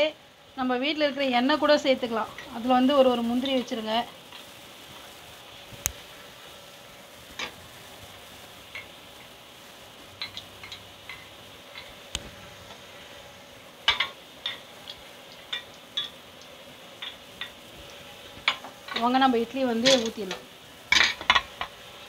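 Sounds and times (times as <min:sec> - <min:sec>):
steady faint hiss: 0:00.0 - 0:22.0.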